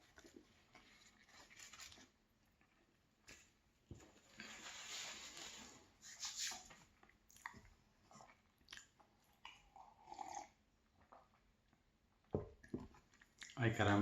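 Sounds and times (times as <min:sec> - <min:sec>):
soft chewing: 0:00.0 - 0:04.6, 0:06.4 - 0:13.7.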